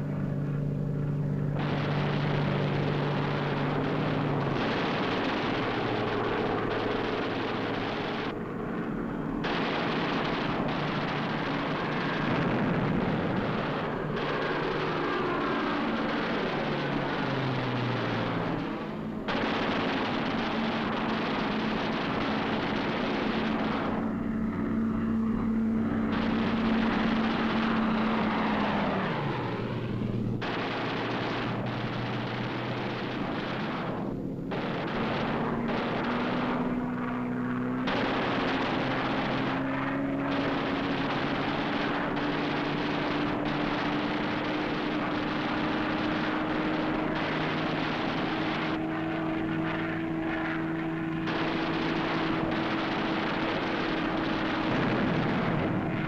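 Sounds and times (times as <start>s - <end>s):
piston aircraft engine droning: 0.0s - 56.0s.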